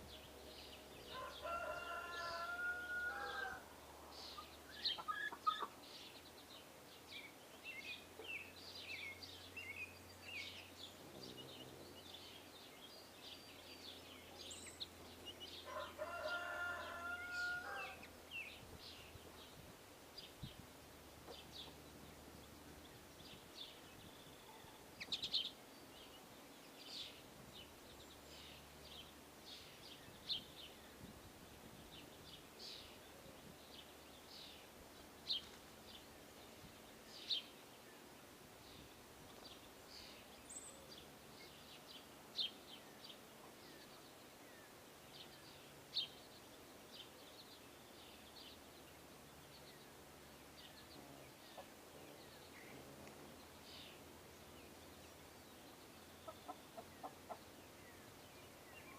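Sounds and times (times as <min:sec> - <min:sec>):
faint background noise: 0:00.0 - 0:58.9
small birds chirping: 0:00.0 - 0:58.9.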